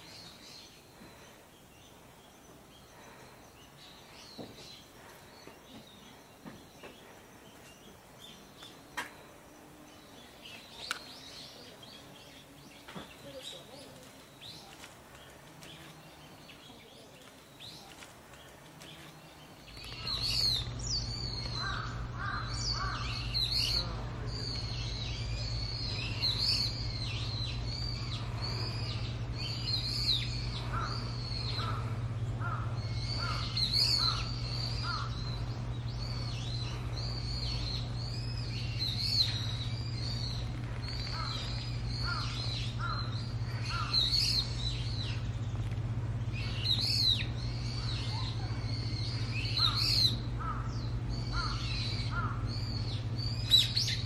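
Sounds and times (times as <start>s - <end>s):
birds chirping: 0.0s - 54.0s
steady low hum: 0.0s - 54.0s.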